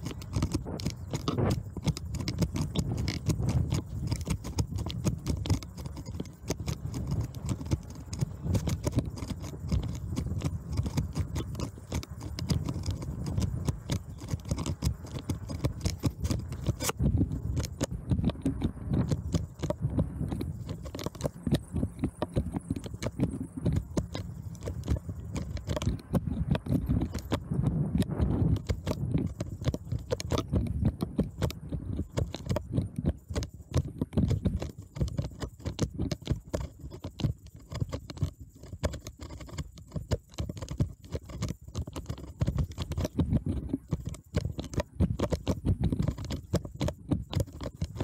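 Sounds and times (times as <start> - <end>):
bicycle rattling and knocking: 0.0 - 48.0.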